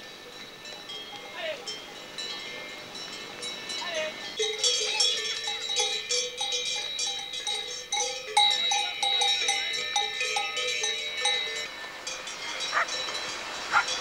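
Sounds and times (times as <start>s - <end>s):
cowbells clanking: 0.0s - 14.0s.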